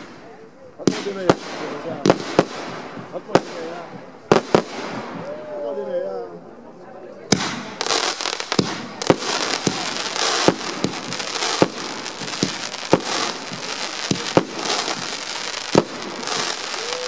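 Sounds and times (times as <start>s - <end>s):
fireworks bangs: 0.0s - 5.6s, 7.2s - 17.0s
continuous hiss: 0.0s - 17.0s.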